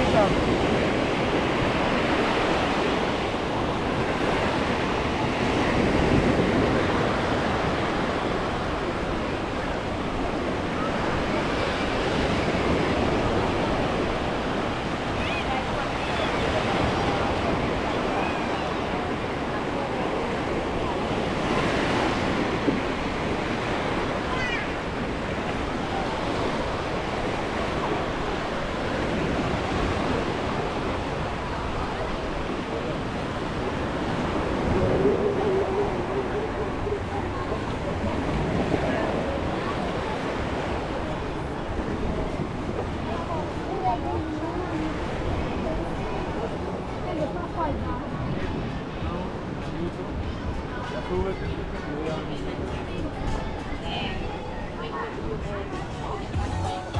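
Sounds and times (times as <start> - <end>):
wind buffeting microphone: 0.0 - 56.4
small waves washing onto sand: 0.0 - 56.9.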